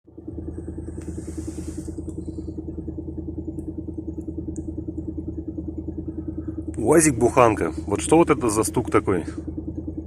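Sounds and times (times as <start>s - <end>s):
van engine running: 0.0s - 10.0s.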